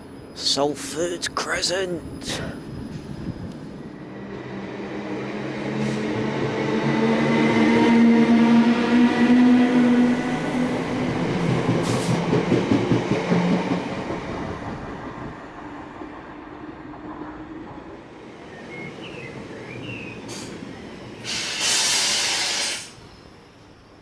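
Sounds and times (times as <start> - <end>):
passenger train passing: 0.0 - 24.0.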